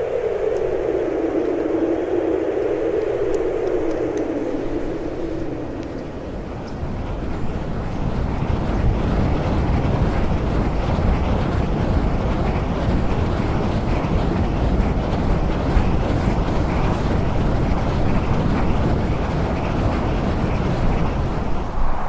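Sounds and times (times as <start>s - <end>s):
wind rushing through forest: 0.0s - 22.0s.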